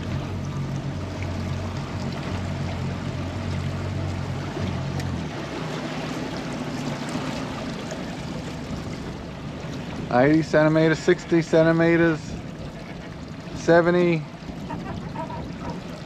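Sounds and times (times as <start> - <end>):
outboard motor running: 0.0 - 16.0
water rushing along hull: 0.0 - 16.0.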